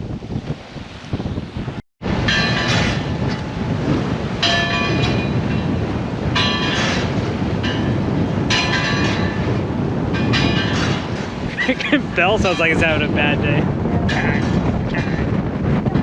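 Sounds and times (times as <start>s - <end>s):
water noise: 0.0s - 16.0s
wind: 0.0s - 16.0s
bell buoy clanging: 2.2s - 15.2s.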